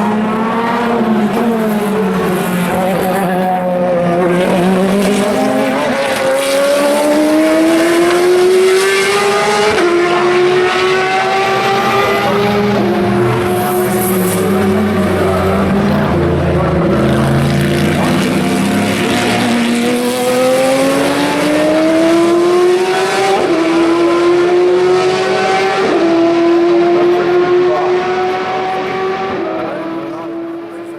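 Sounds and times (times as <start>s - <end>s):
race car engine accelerating: 0.0s - 30.9s.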